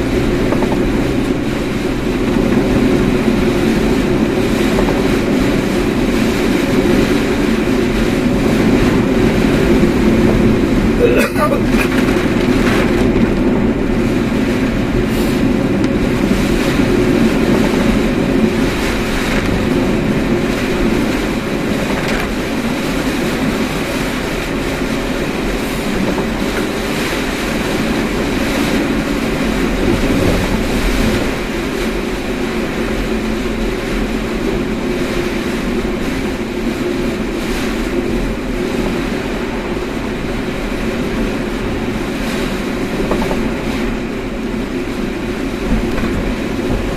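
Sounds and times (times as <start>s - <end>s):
car road and tyre noise: 0.0s - 46.9s.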